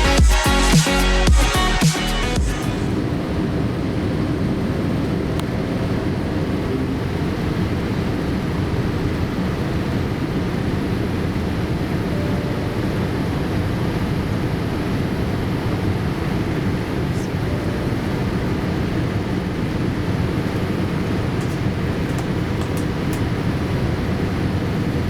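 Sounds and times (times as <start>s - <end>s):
airliner cabin engine hum: 2.7s - 25.0s.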